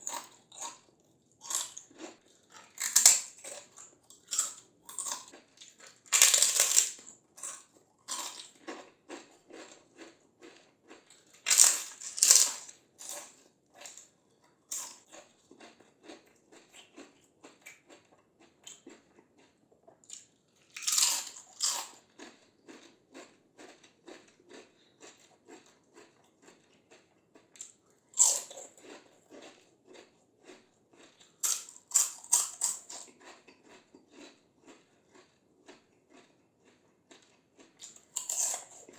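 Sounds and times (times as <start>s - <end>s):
crunchy bites: 0.0s - 14.1s, 20.1s - 27.0s, 27.6s - 38.9s
crackly chewing: 0.0s - 38.9s.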